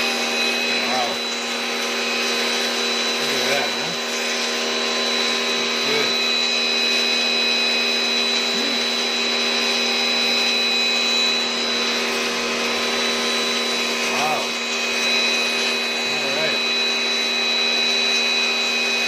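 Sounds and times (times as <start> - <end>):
pressure washer motor whine: 0.0 - 19.0.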